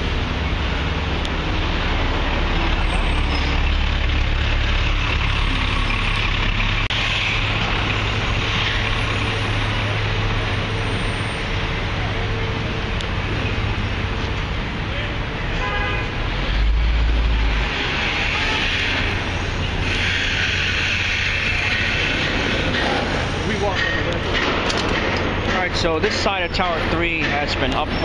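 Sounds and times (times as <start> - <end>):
large diesel engine rumbling: 0.0 - 28.0.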